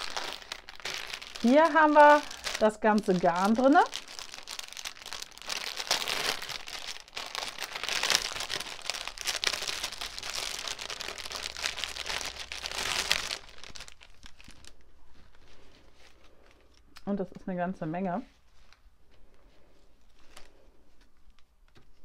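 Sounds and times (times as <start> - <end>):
plastic packaging crinkling: 0.0 - 17.0, 18.3 - 22.0.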